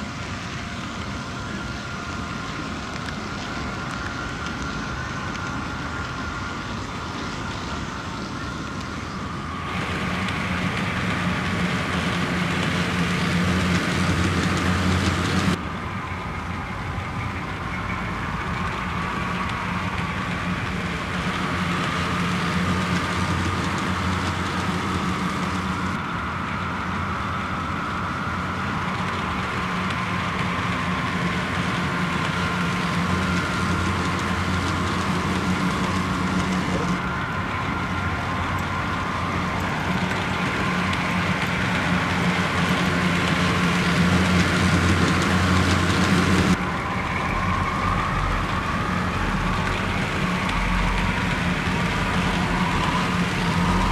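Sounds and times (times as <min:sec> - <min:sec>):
model train humming on track: 0:00.0 - 0:53.9.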